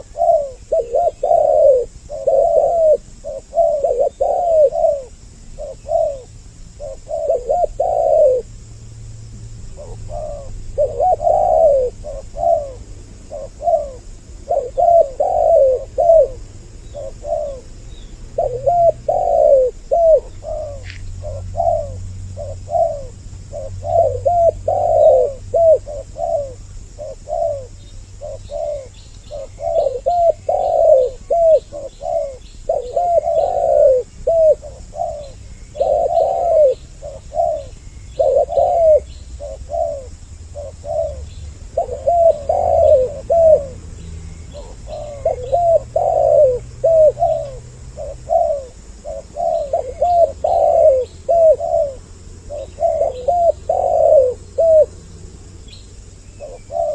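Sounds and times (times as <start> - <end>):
doves cooing: 0.0 - 56.9.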